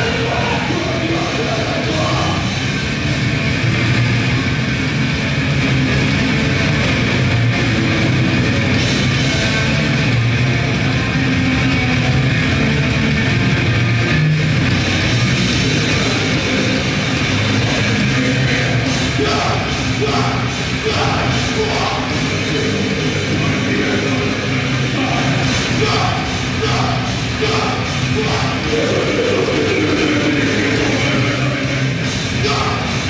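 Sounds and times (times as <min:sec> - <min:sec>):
bass guitar: 0:00.0 - 0:33.0
distorted electric guitar: 0:00.0 - 0:33.0
drum kit: 0:00.0 - 0:33.0.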